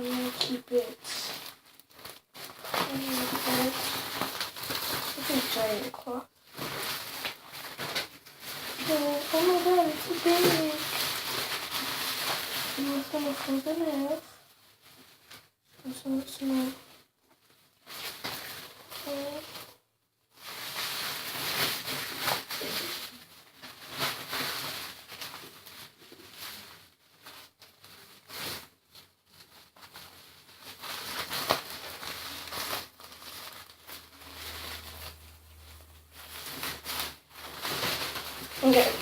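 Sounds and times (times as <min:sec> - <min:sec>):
cloth rustling and crinkling: 0:00.0 - 0:39.0.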